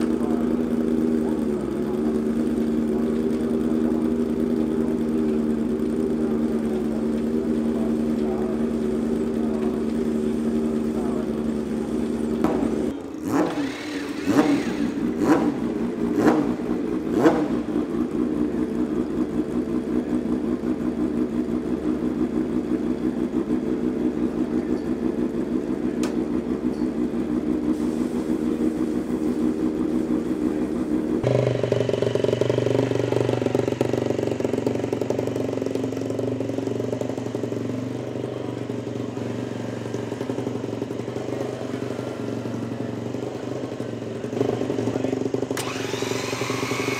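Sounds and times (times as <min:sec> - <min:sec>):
motorcycle engine revving: 0:00.0 - 0:46.9
single-cylinder motorcycle engine running: 0:00.0 - 0:46.9.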